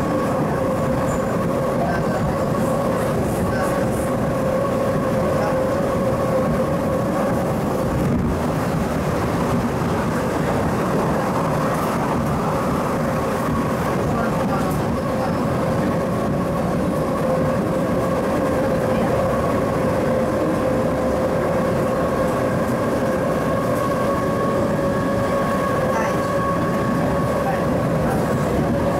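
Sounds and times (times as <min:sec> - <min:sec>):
train wheels rumbling on track: 0:00.0 - 0:28.9.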